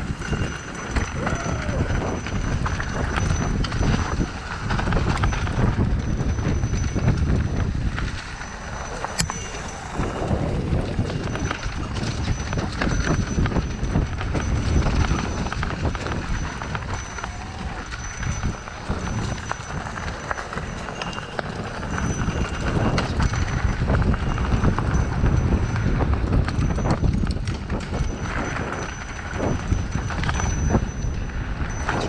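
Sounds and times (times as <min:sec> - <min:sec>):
bike tyres rattling over rocks: 0:00.0 - 0:32.0
wind rumble on microphone: 0:00.0 - 0:32.0.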